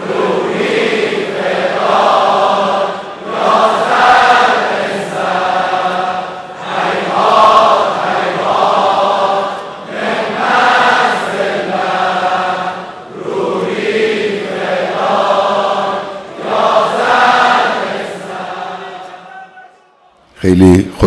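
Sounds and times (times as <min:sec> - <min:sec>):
crowd of women singing in unison: 0:00.0 - 0:19.3.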